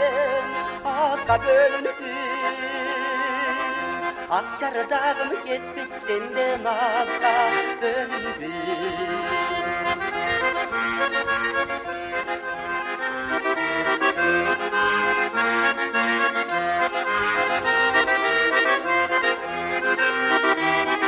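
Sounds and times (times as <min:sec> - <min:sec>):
accordion playing melody: 0:00.0 - 0:21.0.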